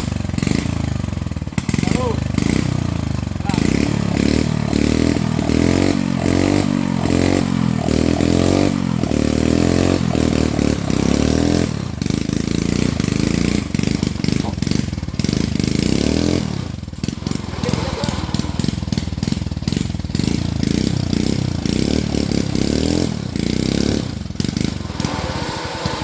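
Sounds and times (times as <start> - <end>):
small petrol engine revving: 0.0 - 26.0.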